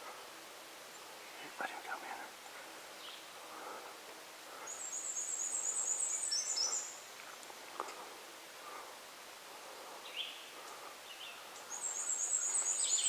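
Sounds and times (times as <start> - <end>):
faint woodland background noise: 0.0 - 13.0.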